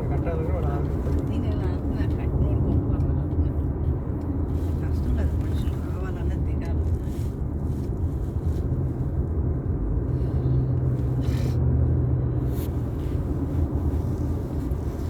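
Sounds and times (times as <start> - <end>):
car engine and road noise: 0.0 - 15.0
steady engine hum: 0.0 - 15.0.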